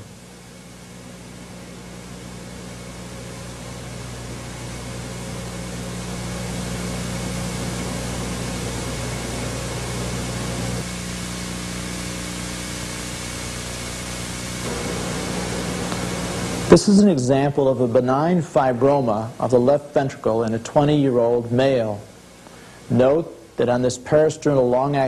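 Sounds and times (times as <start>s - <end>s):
low electrical hum: 0.0s - 25.0s
videotape hiss: 0.0s - 25.0s.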